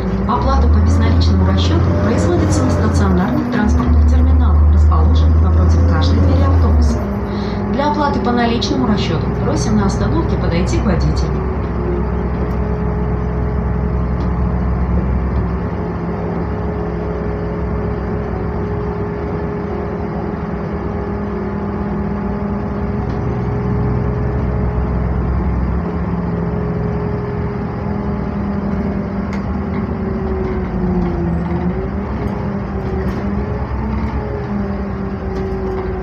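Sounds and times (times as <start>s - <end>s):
bus engine drone with whine: 0.0s - 36.0s
road noise: 0.0s - 36.0s.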